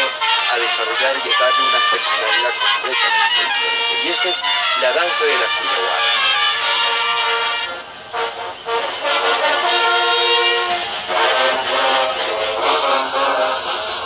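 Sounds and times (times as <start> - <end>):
brass band playing held chords: 0.0 - 14.0.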